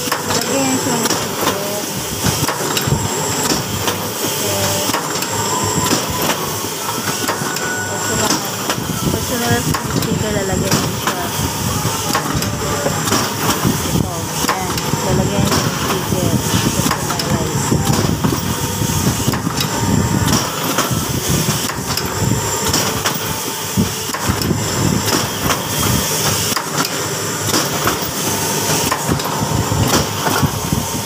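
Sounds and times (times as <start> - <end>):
machine knocks and clacks: 0.0 - 30.8
machinery running: 0.0 - 31.0.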